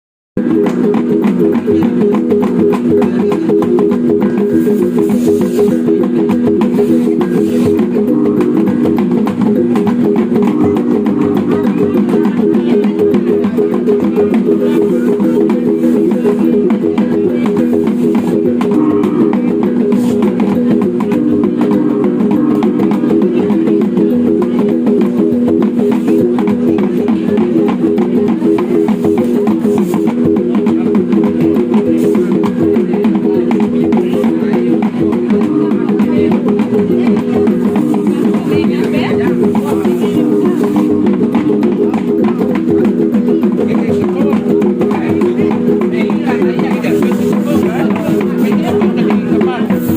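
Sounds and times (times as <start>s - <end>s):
gong ensemble playing fast rhythm: 0.4s - 49.9s.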